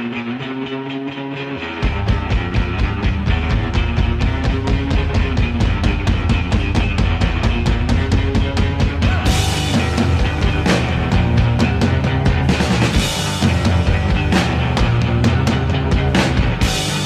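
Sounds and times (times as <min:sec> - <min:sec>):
electric guitar: 0:00.0 - 0:17.0
drum kit beat: 0:01.7 - 0:17.0.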